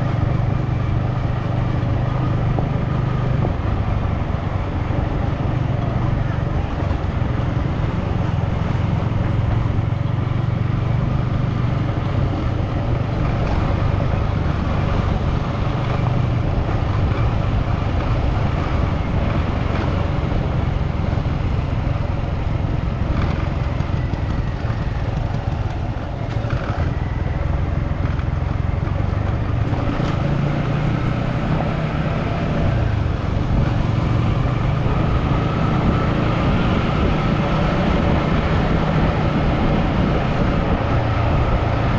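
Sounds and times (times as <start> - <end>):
road noise: 0.0 - 41.9
vehicle engine hum: 0.0 - 41.9.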